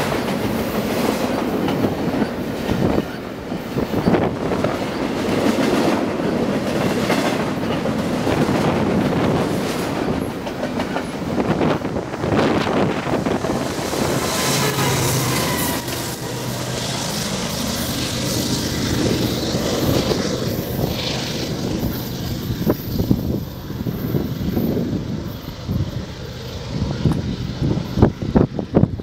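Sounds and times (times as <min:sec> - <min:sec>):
diesel locomotive engine hum: 0:00.0 - 0:29.0
train cars rumbling on rails: 0:00.0 - 0:29.0
wind buffeting microphone: 0:00.0 - 0:29.0.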